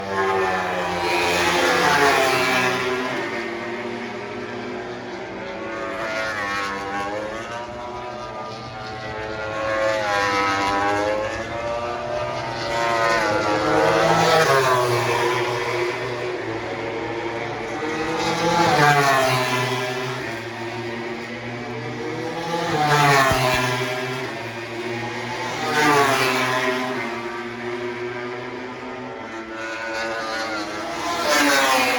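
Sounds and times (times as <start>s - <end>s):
racing motorcycles passing at speed: 0.0s - 31.9s.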